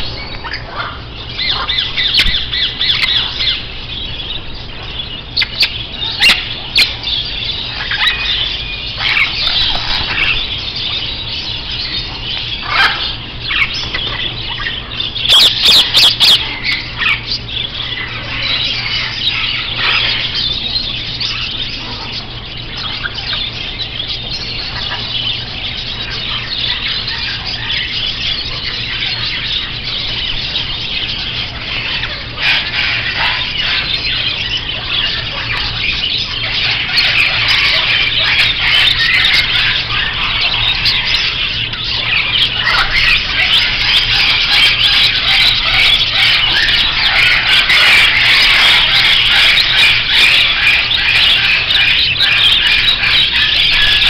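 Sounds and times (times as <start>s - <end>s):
parrots squawking and chattering: 0.0s - 54.0s.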